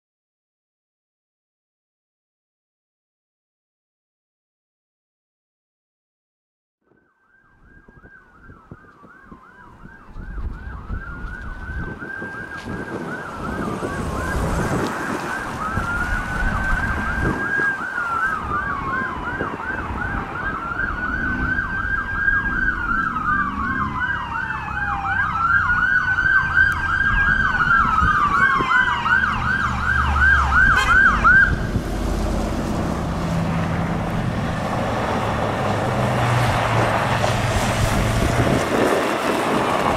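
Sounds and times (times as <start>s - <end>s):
fire engine siren wailing and yelping: 6.9s - 39.9s.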